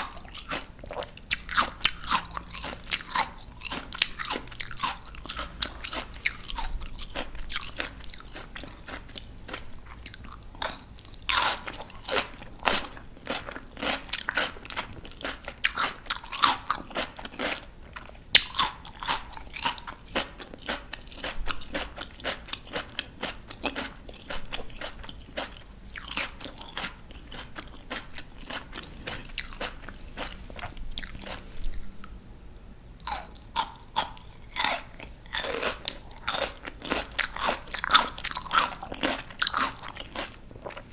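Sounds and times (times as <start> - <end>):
raw vegetables crunching while chewed: 0.0 - 32.1, 33.0 - 40.9.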